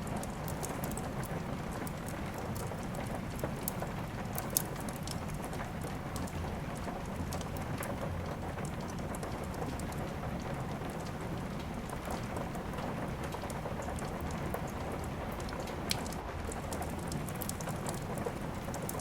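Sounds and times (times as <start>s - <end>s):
steady rain: 0.0s - 19.0s
wood fire crackling: 0.0s - 19.0s.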